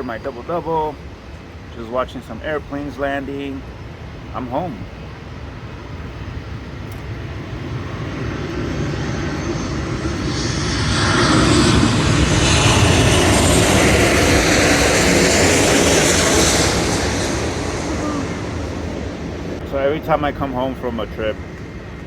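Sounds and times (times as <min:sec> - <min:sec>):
jet airliner roar: 0:00.0 - 0:22.0.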